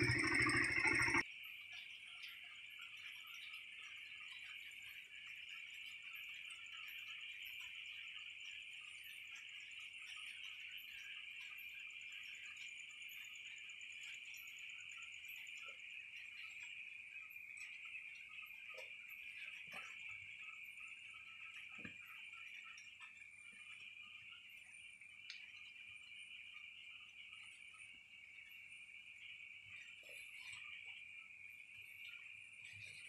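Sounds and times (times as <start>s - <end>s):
faint high insect chirp: 0.0s - 33.0s
crickets trilling: 2.6s - 33.0s.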